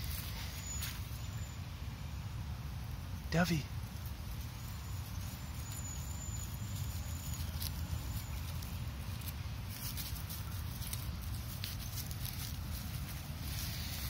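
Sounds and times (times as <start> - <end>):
footsteps in dry leaves: 0.0 - 1.4, 3.9 - 14.0.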